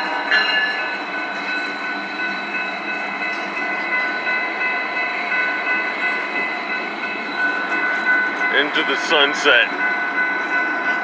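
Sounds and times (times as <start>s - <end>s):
train rolling past: 0.0s - 11.0s.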